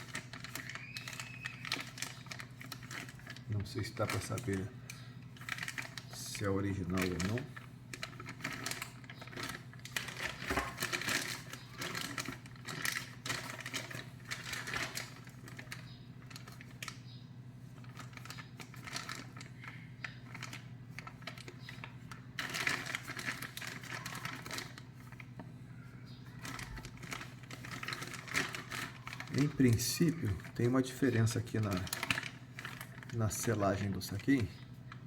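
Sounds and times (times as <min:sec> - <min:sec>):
plastic bags crinkling: 0:00.0 - 0:25.4, 0:26.3 - 0:35.0.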